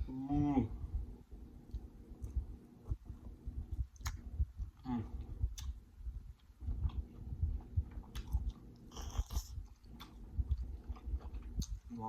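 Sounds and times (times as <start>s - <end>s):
chewing and biting food: 1.6s - 12.0s.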